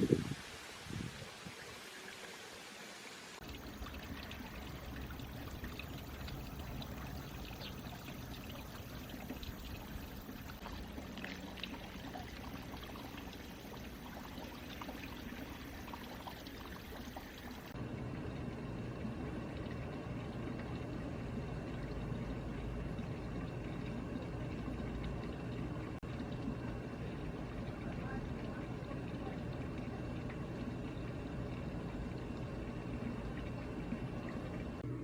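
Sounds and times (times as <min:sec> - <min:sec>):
dull low water rush: 0:00.0 - 0:35.0
stream water babbling: 0:00.0 - 0:35.0.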